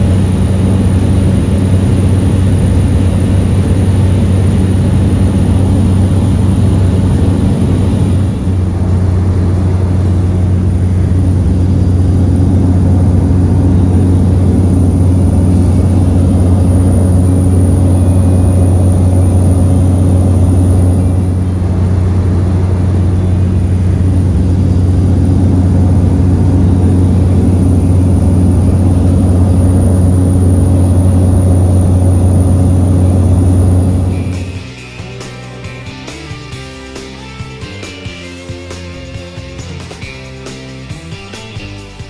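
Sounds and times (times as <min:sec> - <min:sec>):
propeller airplane cabin drone: 0:00.0 - 0:42.0.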